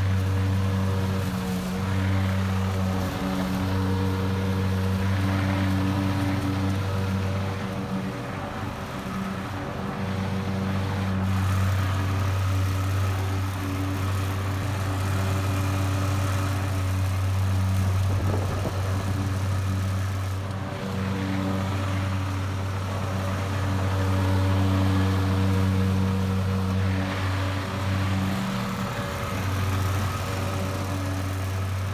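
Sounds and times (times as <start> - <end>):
lawn mower engine running: 0.0 - 31.9.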